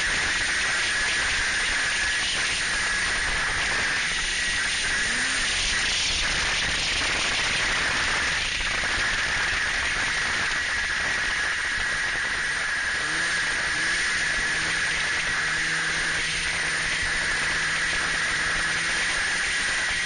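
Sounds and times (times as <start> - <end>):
snowmobile engine: 0.0 - 20.0.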